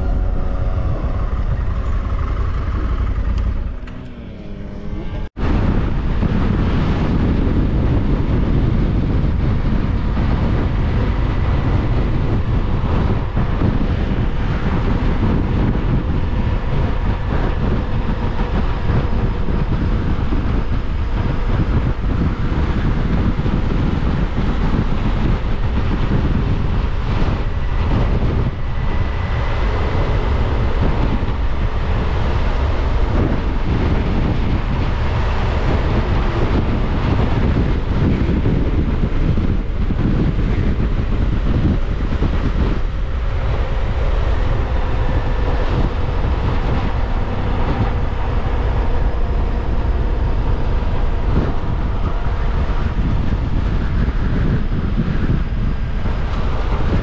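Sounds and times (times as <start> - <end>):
motorcycle engine running: 0.0 - 57.0
road rumble: 0.0 - 57.0
wind noise on microphone: 0.0 - 57.0.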